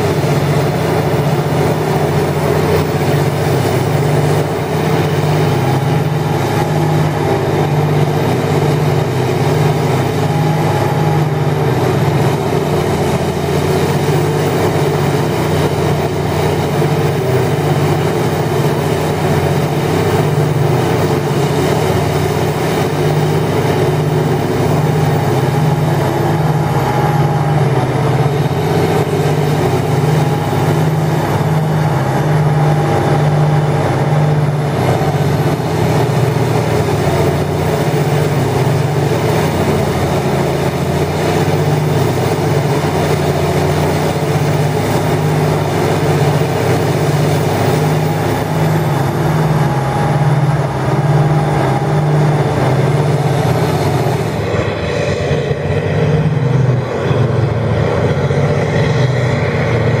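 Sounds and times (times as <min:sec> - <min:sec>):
grinding mill rushing: 0:00.0 - 0:58.6
diesel engine drone: 0:00.0 - 1:00.0.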